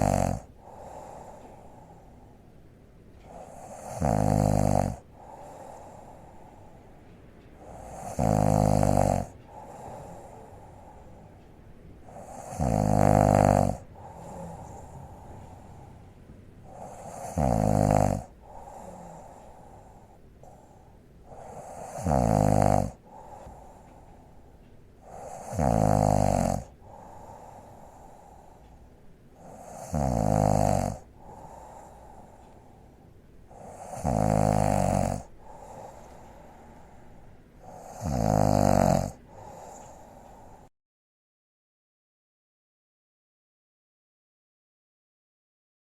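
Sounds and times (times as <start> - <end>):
woman snoring: 0.0 - 2.3, 3.2 - 6.8, 7.5 - 11.4, 12.0 - 40.7
quiet breathing: 0.0 - 40.7.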